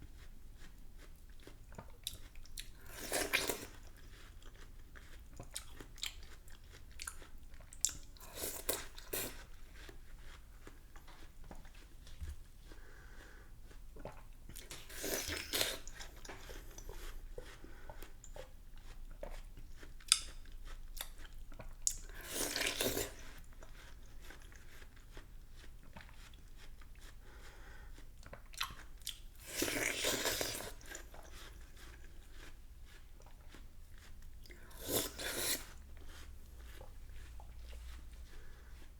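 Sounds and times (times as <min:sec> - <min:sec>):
quiet chewing with wet clicks: 0:00.0 - 0:38.9.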